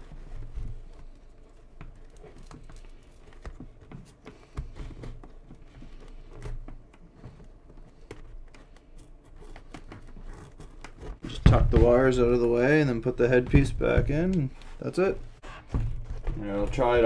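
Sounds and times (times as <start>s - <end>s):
hands tapping and rustling in helmet liner: 0.0s - 17.0s.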